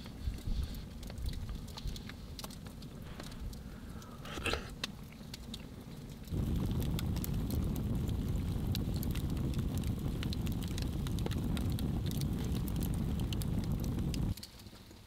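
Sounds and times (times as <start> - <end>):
fire low rumble: 0.0 - 14.4
logs crackling and popping: 0.0 - 15.0.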